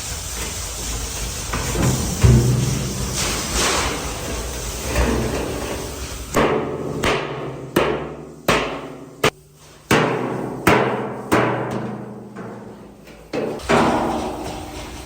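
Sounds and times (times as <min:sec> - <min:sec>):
workshop clatter: 0:00.0 - 0:15.0.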